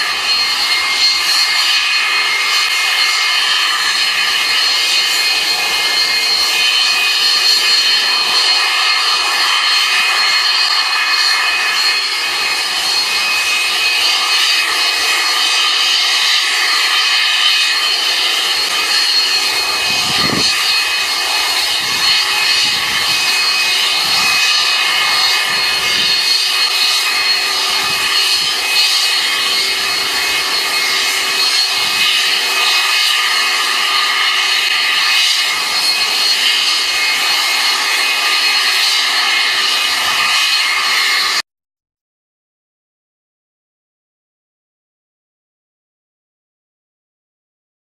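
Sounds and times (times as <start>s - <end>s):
faint high whine: 0.0s - 41.4s
jet engine snow blower roaring: 0.0s - 41.5s.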